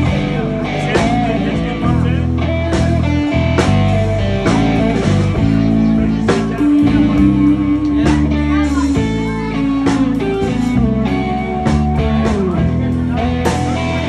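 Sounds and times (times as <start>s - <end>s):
blues-rock band playing: 0.0s - 14.0s
electric guitar lead: 0.0s - 14.0s.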